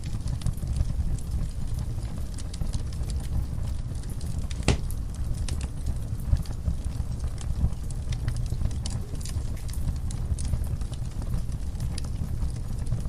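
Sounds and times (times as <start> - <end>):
fire crackling and popping: 0.0 - 13.0
logs burning in a fireplace: 0.0 - 13.0.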